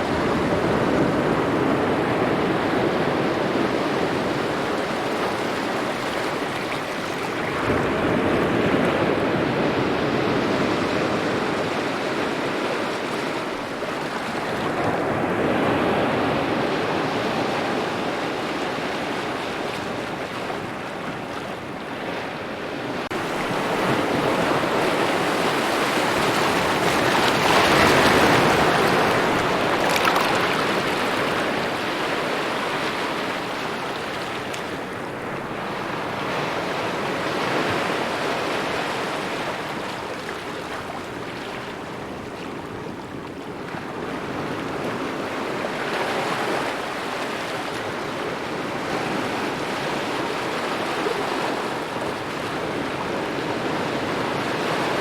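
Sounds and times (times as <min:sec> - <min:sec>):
ocean waves lapping at shore: 0:00.0 - 0:55.0.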